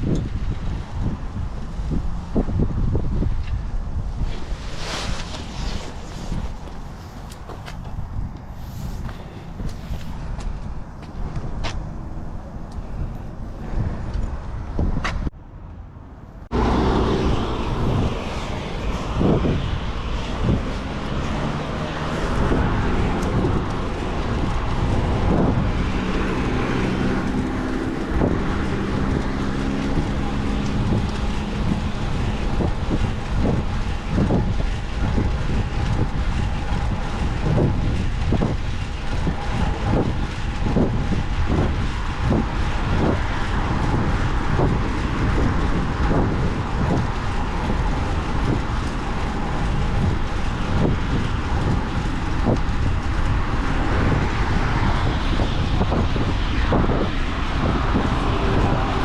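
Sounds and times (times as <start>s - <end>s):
motor vehicle hum: 0.0s - 59.0s
traffic noise: 0.0s - 59.0s
wind buffeting microphone: 0.0s - 59.0s.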